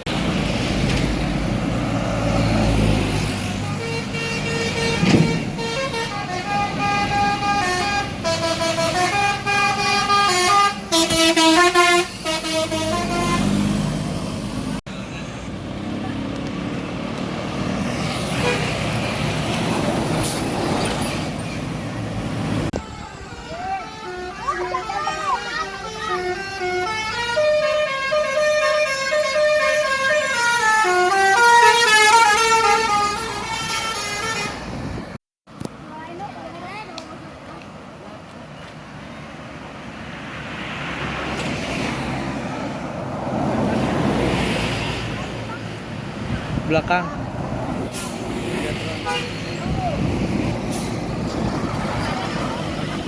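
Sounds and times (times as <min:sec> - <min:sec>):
bus passing with engine rumble: 0:00.0 - 0:53.0.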